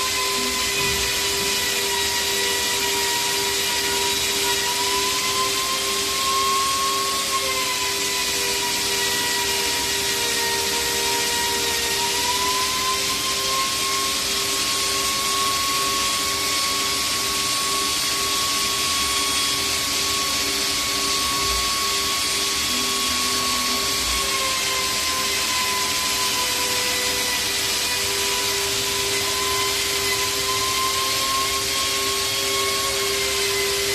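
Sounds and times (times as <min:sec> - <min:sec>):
router mechanical whine: 0:00.0 - 0:33.9.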